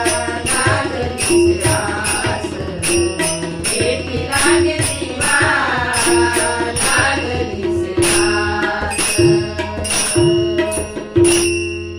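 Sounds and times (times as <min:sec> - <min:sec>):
small hand cymbals striking: 0:00.0 - 0:07.4, 0:08.0 - 0:11.9
harmonium holding chords: 0:00.0 - 0:11.9
tabla strokes: 0:00.0 - 0:11.9.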